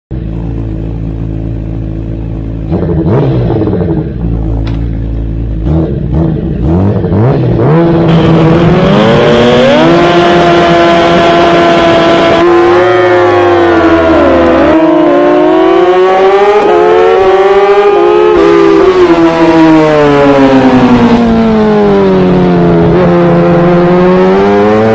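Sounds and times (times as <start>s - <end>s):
motorbike engine revving: 2.6s - 24.9s.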